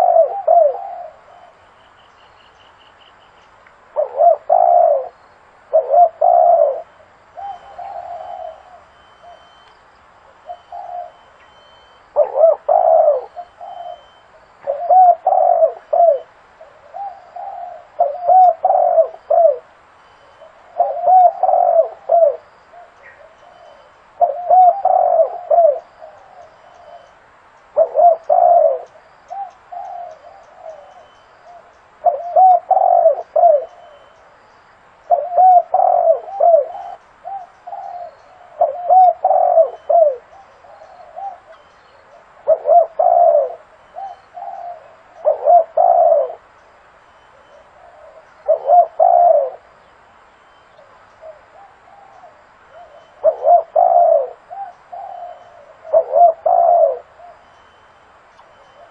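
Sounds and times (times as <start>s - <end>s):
dove cooing: 0.0s - 1.7s, 3.9s - 9.6s, 10.3s - 34.2s, 35.0s - 46.5s, 47.3s - 49.8s, 50.8s - 58.9s.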